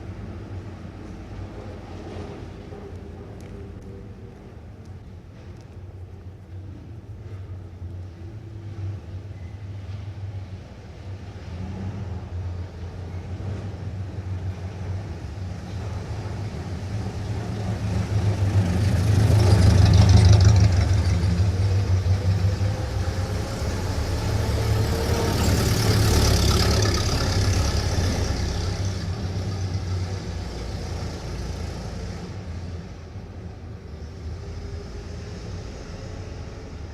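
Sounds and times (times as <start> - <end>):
engine rumble: 0.0 - 36.9
vehicles driving past: 0.0 - 36.9.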